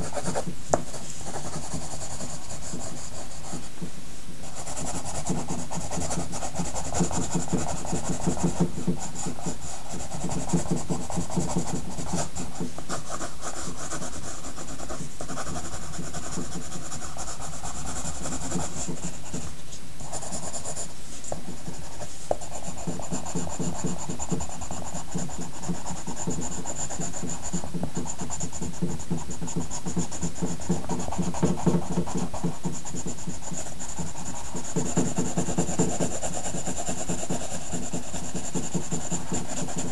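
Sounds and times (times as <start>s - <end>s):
pencil scratching on paper: 0.0s - 3.8s, 4.4s - 39.9s.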